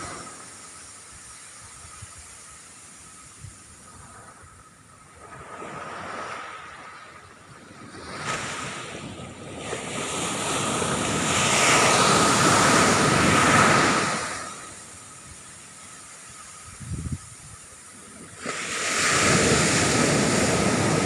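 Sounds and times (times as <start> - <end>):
ocean surf breaking on a beach: 0.0 - 21.0.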